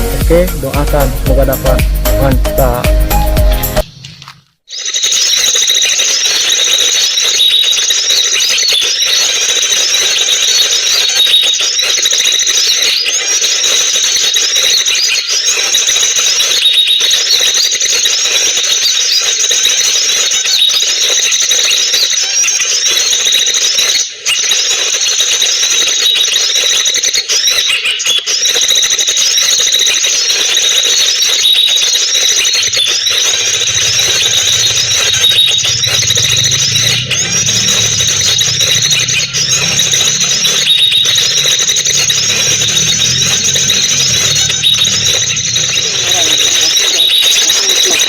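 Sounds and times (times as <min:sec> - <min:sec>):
recorded bird song through speaker: 0:00.0 - 0:48.0.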